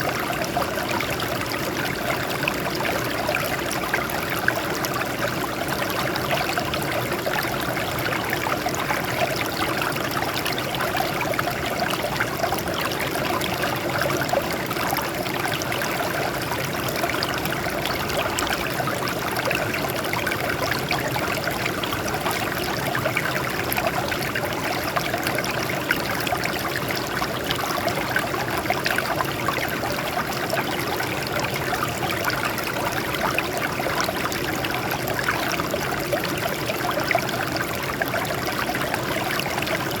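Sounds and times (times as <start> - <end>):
water babbling over rocks: 0.0 - 40.0.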